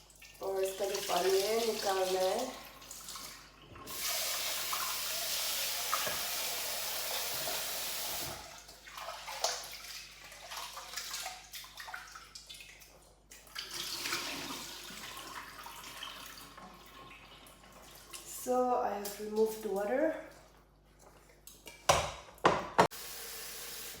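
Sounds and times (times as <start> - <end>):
water running into sink: 0.0 - 12.7, 13.4 - 20.1.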